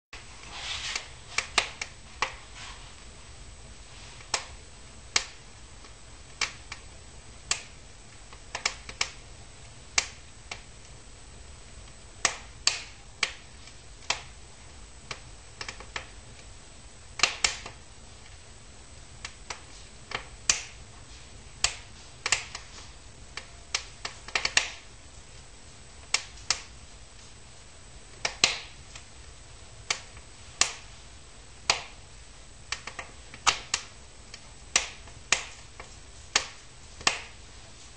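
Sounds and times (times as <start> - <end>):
firewood crackling and popping: 0.2 - 2.5, 4.2 - 9.2, 9.9 - 11.0, 11.8 - 16.5, 17.1 - 18.4, 19.2 - 25.4, 26.0 - 27.4, 28.2 - 31.0, 31.6 - 32.0, 32.6 - 37.9
faint steady background noise: 0.2 - 37.9.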